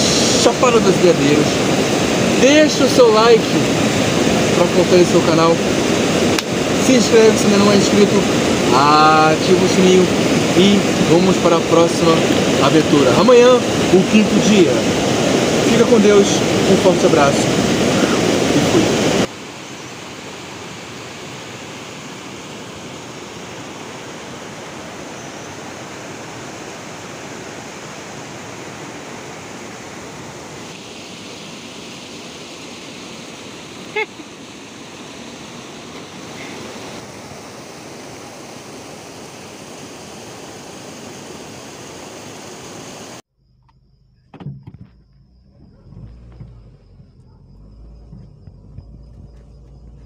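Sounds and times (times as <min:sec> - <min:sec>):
waterfall rushing: 0:00.0 - 0:43.2.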